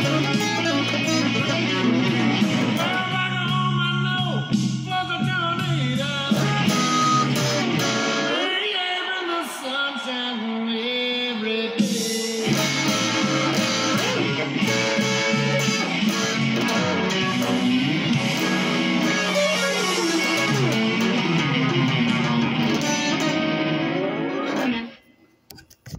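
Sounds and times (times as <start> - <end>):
electric guitar blues lead: 0.0 - 9.9, 11.3 - 25.0.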